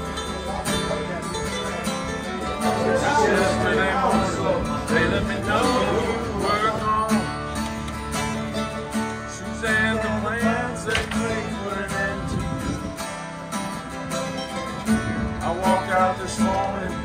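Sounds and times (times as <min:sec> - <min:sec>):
acoustic guitar: 0:00.0 - 0:17.0
mandolin: 0:00.0 - 0:17.0.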